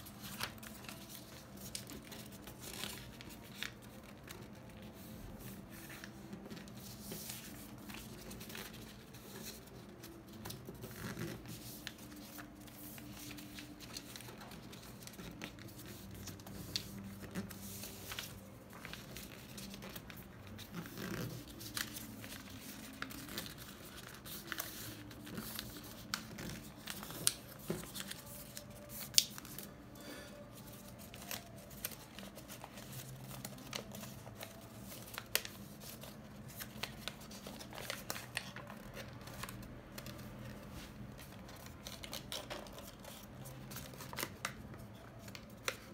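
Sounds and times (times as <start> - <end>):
paper rustling and crinkling: 0.0 - 29.7, 30.5 - 45.9.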